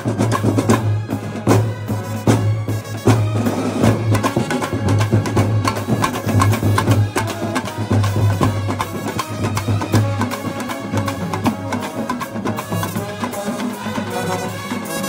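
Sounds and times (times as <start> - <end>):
brass horns melody: 0.0 - 15.0
marching drums: 0.0 - 15.0.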